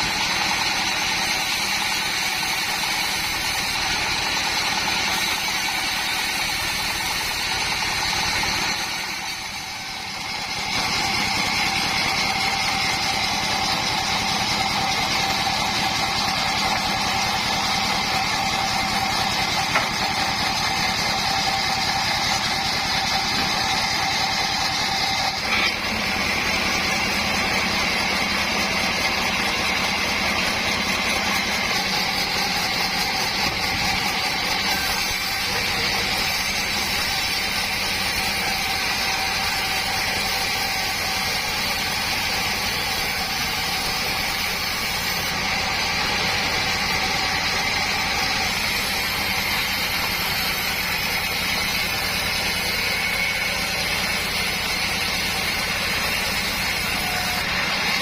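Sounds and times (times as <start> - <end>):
board saw running with high whine: 0.0 - 58.0.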